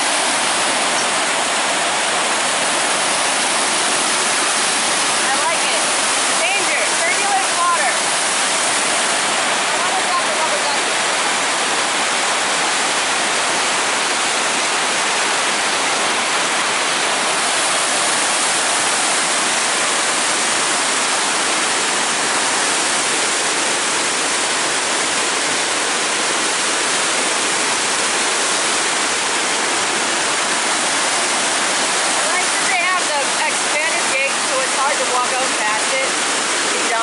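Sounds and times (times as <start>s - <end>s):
water rushing through channel: 0.0s - 37.0s.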